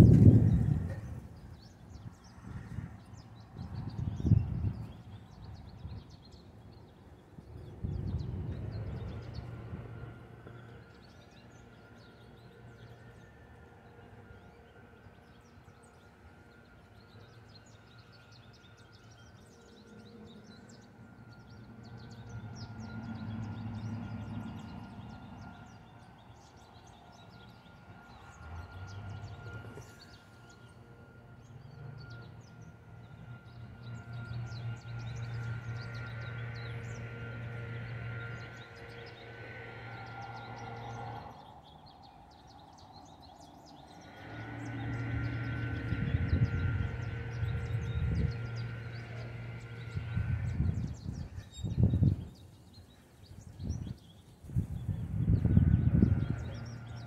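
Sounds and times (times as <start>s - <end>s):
distant road traffic rumble: 0.0s - 57.0s
faint high whine: 0.0s - 57.0s.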